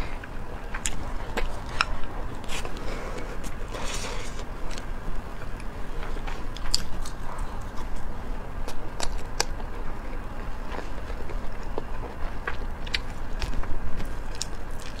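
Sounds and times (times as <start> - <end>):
close-up chewing: 0.2 - 15.0.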